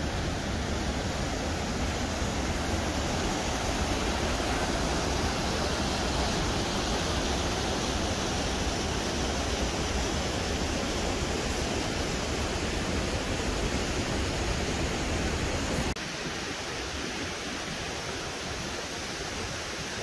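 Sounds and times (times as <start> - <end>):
waterfall rushing over rock: 0.0 - 20.0.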